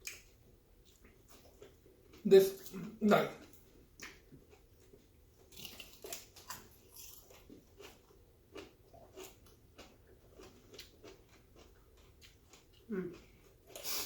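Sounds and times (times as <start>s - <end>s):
chewing and biting food: 0.0s - 14.0s.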